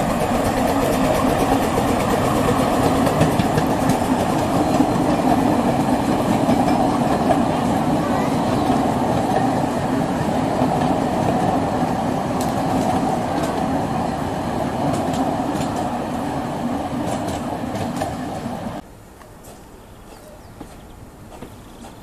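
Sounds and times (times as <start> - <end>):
train wheels rumbling on rails: 0.0 - 18.8.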